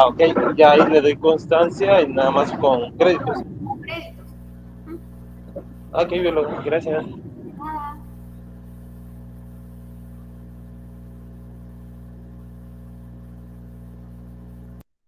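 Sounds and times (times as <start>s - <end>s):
electrical buzz: 0.0s - 14.9s.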